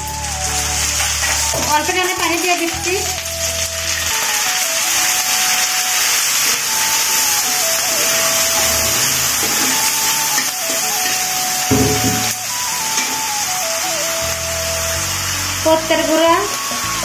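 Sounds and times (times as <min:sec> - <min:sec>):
hot oil hissing and sizzling: 0:00.0 - 0:17.0.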